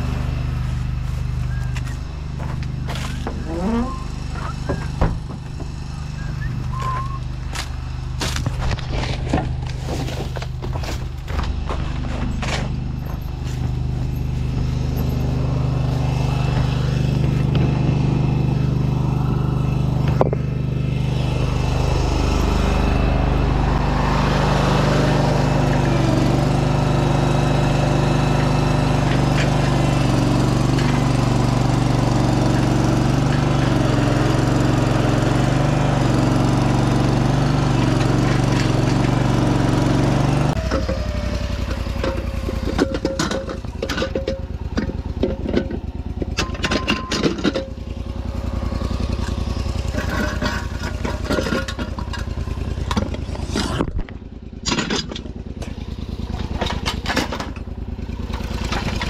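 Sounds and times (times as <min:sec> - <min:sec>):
large engine running: 0:00.0 - 0:59.0.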